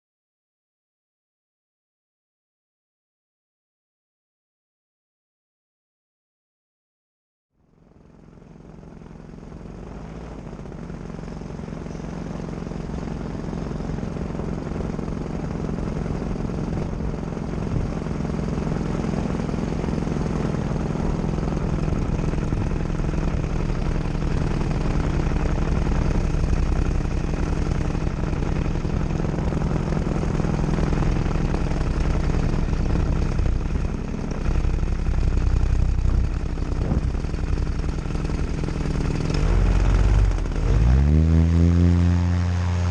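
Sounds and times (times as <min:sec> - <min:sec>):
paramotor engine and propeller droning: 0:07.6 - 0:42.9.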